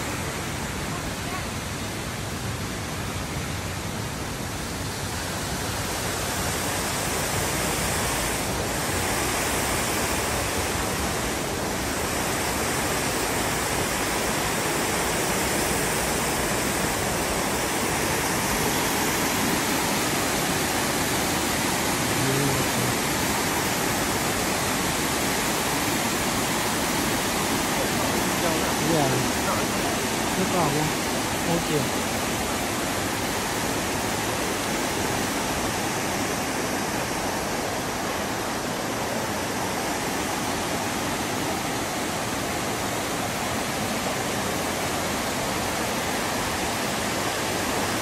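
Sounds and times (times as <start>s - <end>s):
waterfall rushing into rock hole: 0.0s - 48.0s.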